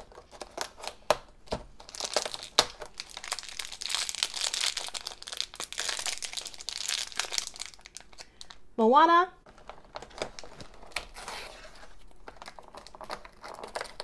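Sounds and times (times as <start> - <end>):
packaging clicks: 0.0 - 8.6, 9.5 - 14.0
plastic foil bag crinkling and tearing: 0.0 - 8.6, 9.4 - 14.0.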